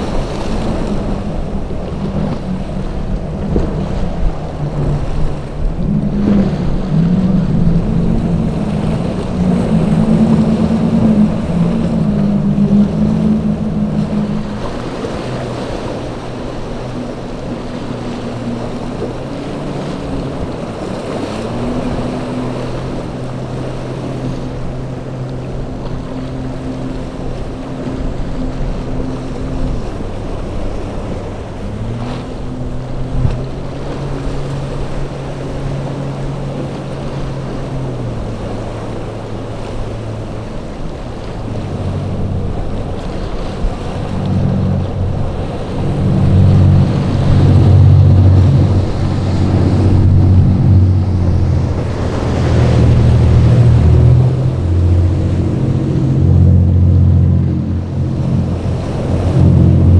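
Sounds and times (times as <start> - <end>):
boat engine running: 0.0 - 59.9
waves breaking: 0.0 - 59.9
wind on microphone: 0.0 - 59.9
louder engine: 0.1 - 59.9.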